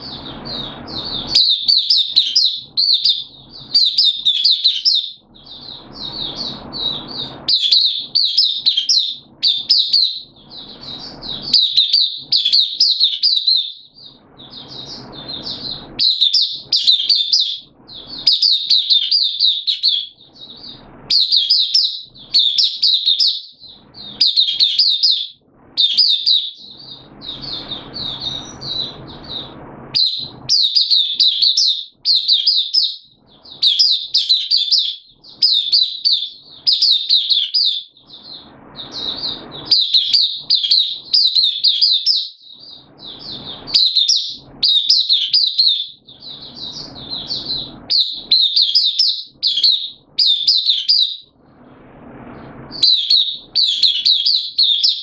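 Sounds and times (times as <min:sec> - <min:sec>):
bird warbling: 0:00.0 - 0:51.2.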